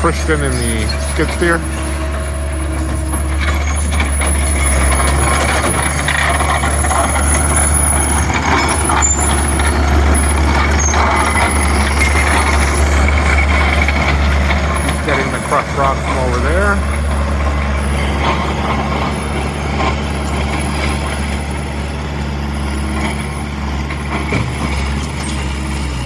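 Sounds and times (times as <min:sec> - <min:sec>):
skid steer loader running: 0:00.0 - 0:26.0.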